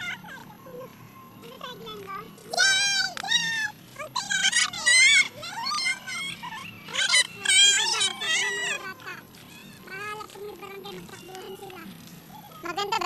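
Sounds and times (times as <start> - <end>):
children shouting and squealing: 0.0 - 13.0.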